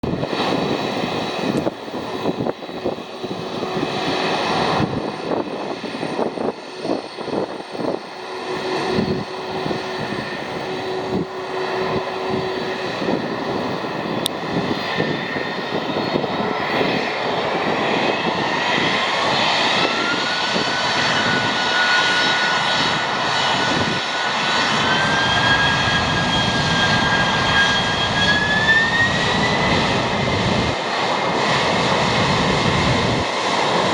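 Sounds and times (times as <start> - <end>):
jet engines running up: 0.0 - 33.9.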